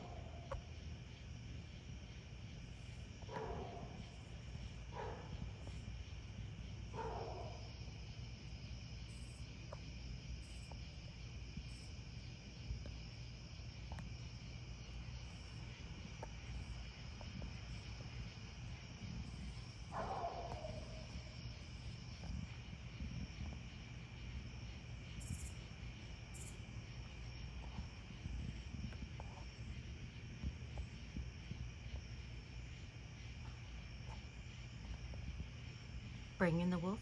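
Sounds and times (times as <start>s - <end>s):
crickets and insects trilling: 0.0s - 37.0s.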